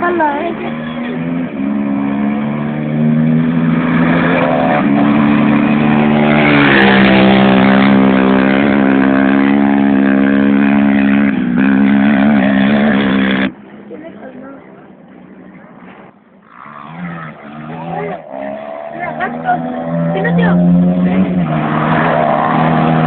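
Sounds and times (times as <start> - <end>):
race vehicle engines roaring: 0.0 - 23.0.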